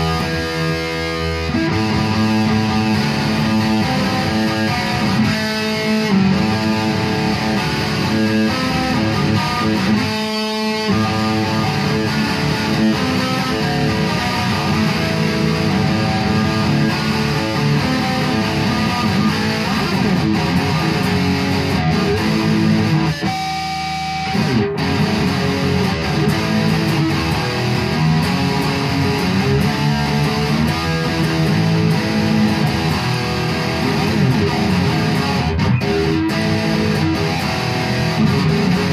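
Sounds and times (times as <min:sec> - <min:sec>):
electric guitar strumming chords: 0:00.0 - 0:38.9.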